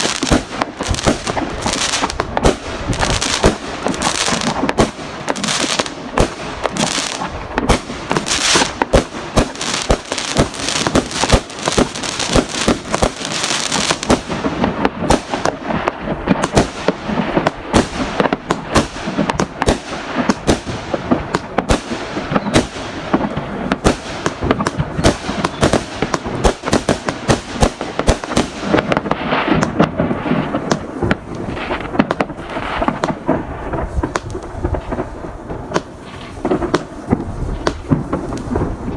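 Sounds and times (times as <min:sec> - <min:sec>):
fireworks bangs and booms: 0:00.0 - 0:38.9
fireworks crackling: 0:00.0 - 0:38.9.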